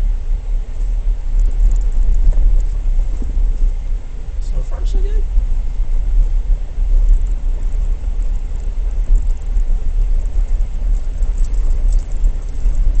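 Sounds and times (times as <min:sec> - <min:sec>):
engine and tyres rumbling: 0:00.0 - 0:13.0
faint rattles: 0:00.0 - 0:13.0.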